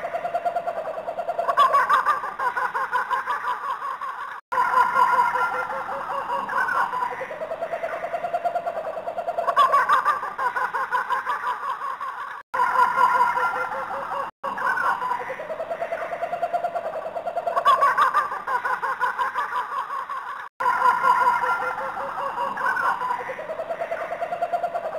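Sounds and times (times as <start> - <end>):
pulsing trilling animal call: 0.0 - 3.8, 4.5 - 11.8, 12.6 - 19.9, 20.6 - 24.9.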